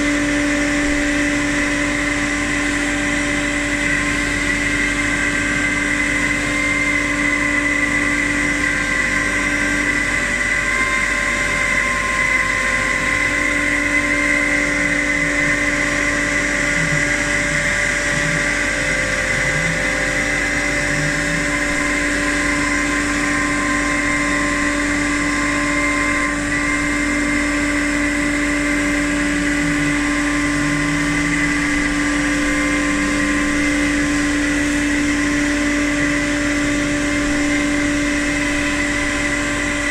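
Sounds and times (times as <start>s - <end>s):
cnc router whine: 0.0s - 39.9s.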